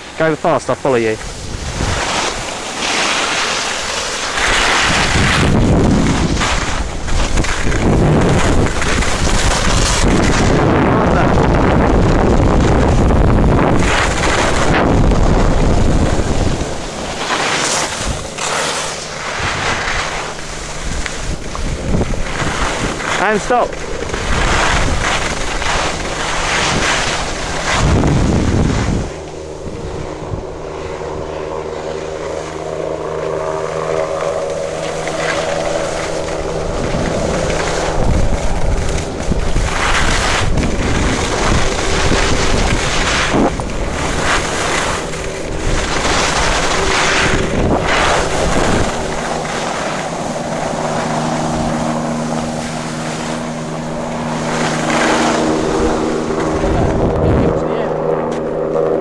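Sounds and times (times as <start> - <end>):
skis scraping on snow: 0.0 - 30.2, 31.4 - 58.6
engine drone: 0.0 - 59.0
wind buffeting microphone: 0.0 - 59.0.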